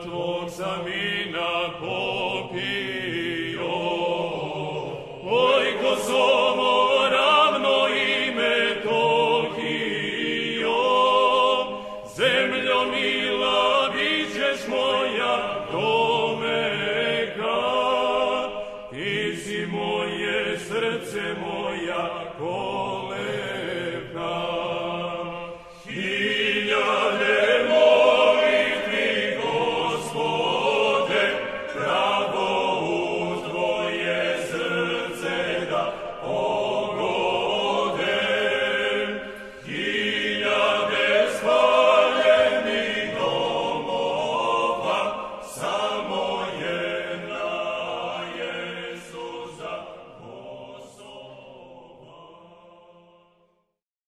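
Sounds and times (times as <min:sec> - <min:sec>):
choir breaths: 0:00.0 - 0:53.4
choir chanting: 0:00.0 - 0:53.7.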